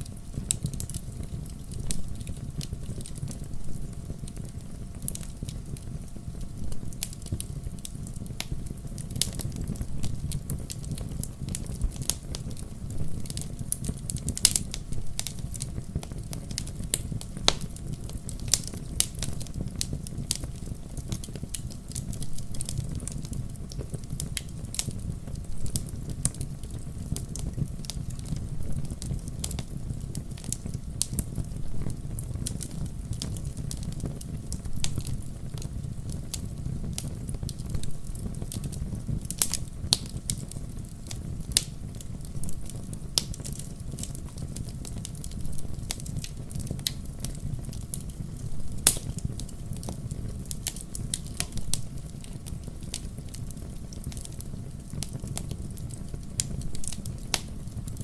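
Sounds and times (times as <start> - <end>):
fire crackles and pops: 0.0 - 58.0
low rumble of flames: 0.0 - 58.0.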